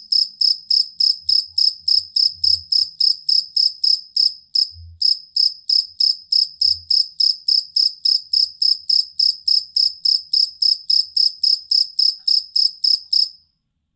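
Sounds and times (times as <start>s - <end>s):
cricket chirping: 0.0s - 13.5s.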